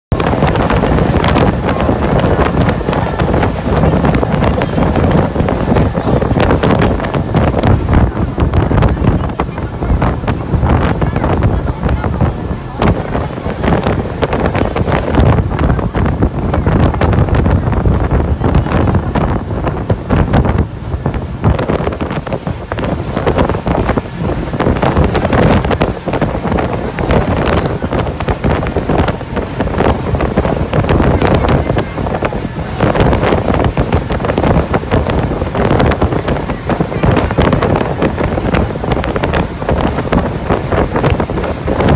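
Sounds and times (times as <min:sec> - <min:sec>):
rushing water: 0:00.0 - 0:41.9
boat motor: 0:00.1 - 0:41.9
wind buffeting microphone: 0:00.1 - 0:41.9.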